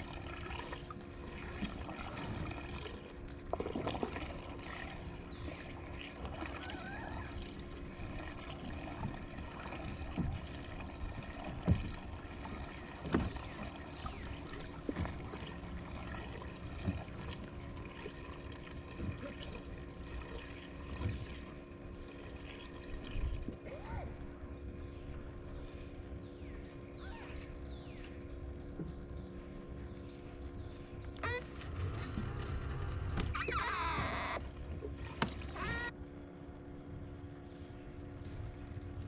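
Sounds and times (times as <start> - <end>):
creek water trickling: 0.0 - 36.0.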